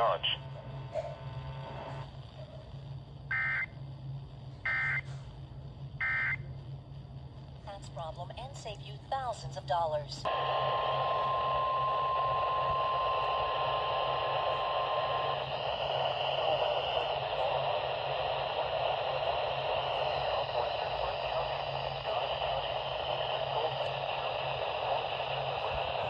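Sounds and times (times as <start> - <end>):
low hum: 0.0 - 26.0
radio static hiss: 0.0 - 26.0.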